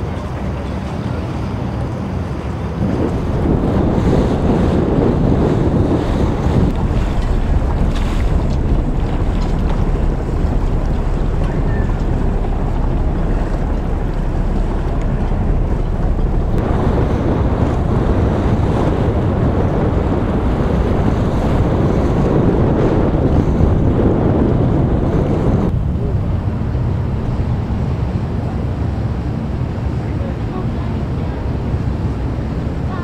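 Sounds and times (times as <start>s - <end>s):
open water washing: 0.0s - 33.0s
wind buffeting microphone: 0.0s - 33.0s.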